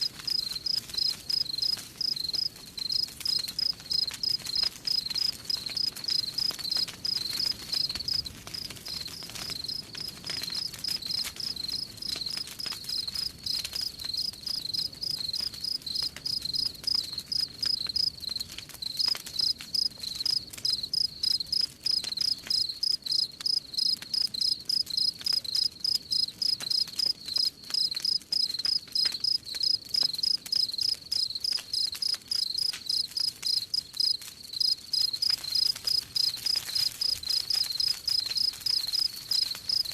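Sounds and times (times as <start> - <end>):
campfire crackling: 0.0 - 39.9
crickets chirping: 0.3 - 9.8, 11.1 - 18.4, 19.4 - 36.4, 37.0 - 39.9.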